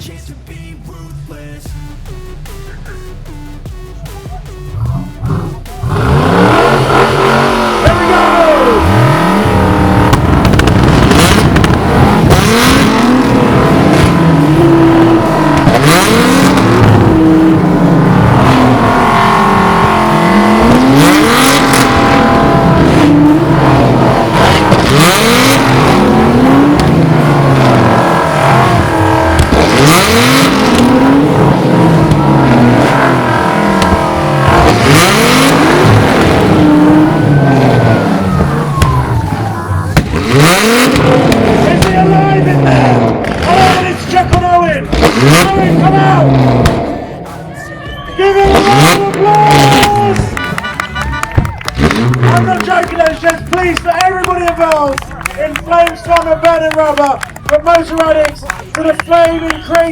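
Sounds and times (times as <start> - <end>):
exhaust bangs: 0.0 - 47.5, 48.2 - 59.9
car engines revving: 0.0 - 59.9.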